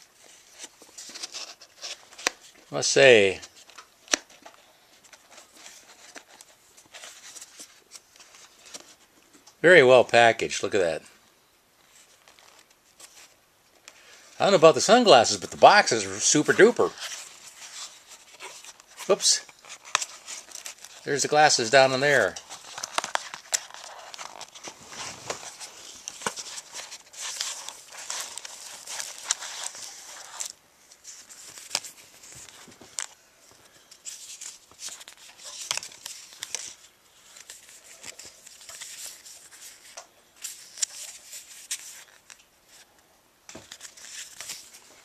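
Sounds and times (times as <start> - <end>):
paper and cardboard rustling: 0.0 - 9.1, 11.8 - 42.9, 43.5 - 45.0.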